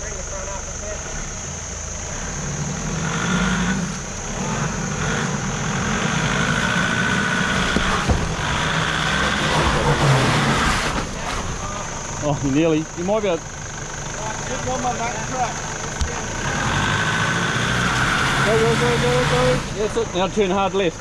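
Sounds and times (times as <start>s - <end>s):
engine revving under load: 1.0s - 12.6s, 14.1s - 20.8s.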